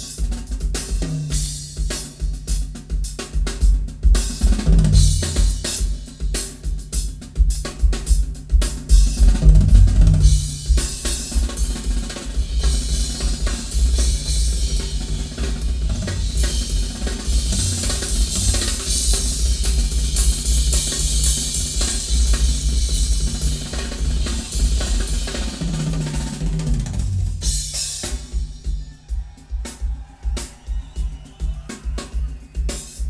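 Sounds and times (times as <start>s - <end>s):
bass drum: 0.0s - 32.7s
cymbals: 0.0s - 33.0s.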